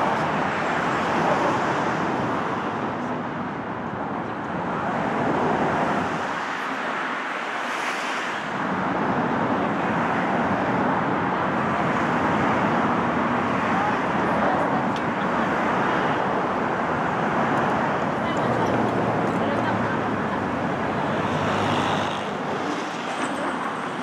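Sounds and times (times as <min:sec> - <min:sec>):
road traffic rushing: 0:00.0 - 0:24.0.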